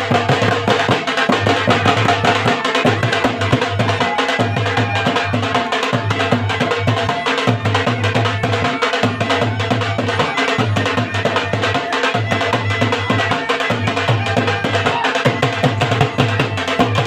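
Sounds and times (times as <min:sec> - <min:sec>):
drum beaten with sticks: 0:00.0 - 0:17.0
wind pipe melody: 0:00.0 - 0:17.0.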